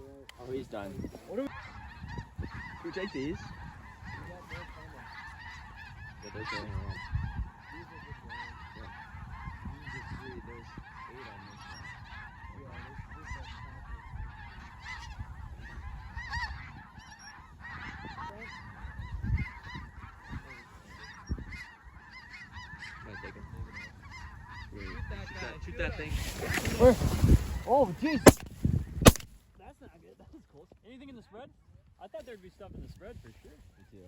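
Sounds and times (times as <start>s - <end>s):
geese yelping calls: 0.1s - 29.3s.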